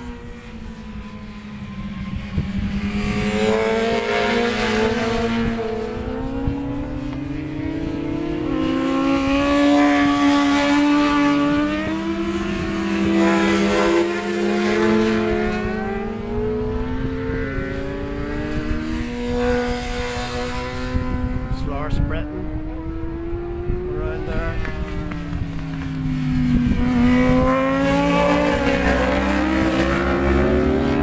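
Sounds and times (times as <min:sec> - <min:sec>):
motorcycle engine revving: 0:00.0 - 0:31.0
wind buffeting microphone: 0:00.0 - 0:31.0.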